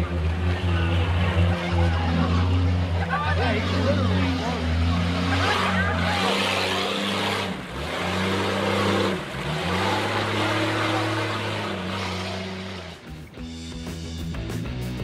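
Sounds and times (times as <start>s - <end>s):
engine revving: 0.0s - 13.6s.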